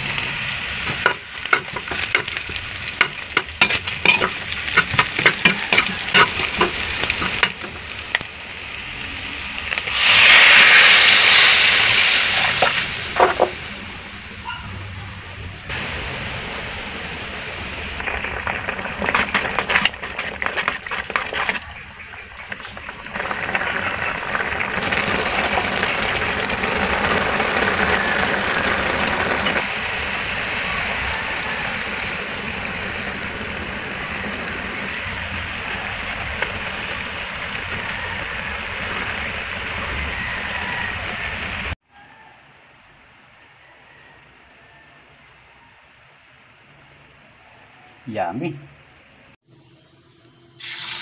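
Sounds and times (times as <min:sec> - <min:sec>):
coconut milk boiling: 0:00.0 - 0:14.3, 0:15.7 - 0:42.4
crackling: 0:00.0 - 0:41.8.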